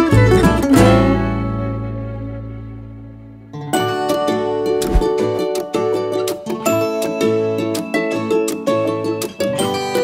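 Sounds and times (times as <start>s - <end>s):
upbeat plucked string music: 0.0s - 10.0s.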